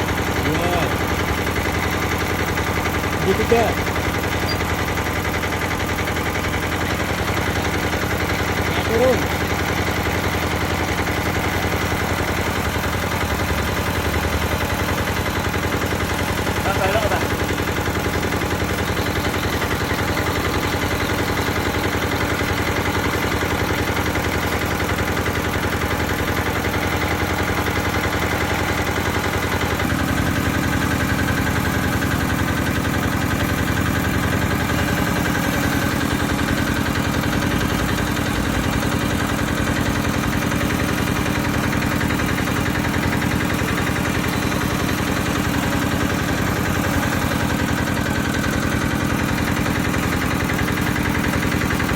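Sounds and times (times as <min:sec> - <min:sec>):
drilling rig engine running: 0:00.0 - 0:51.9.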